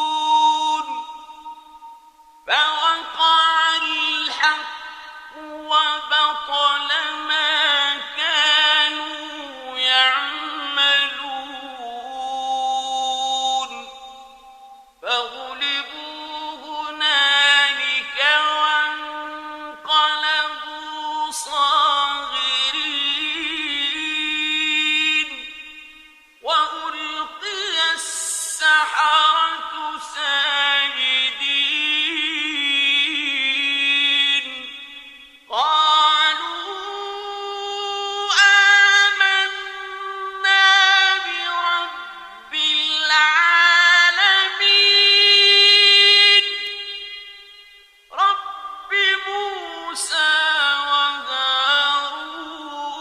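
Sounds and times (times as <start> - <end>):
man chanting melodically: 0.0 - 53.0.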